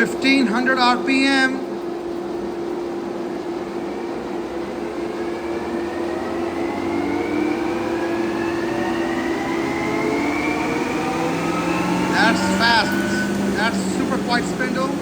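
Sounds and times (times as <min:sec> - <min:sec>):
lathe humming with faint whine: 0:00.0 - 0:15.0.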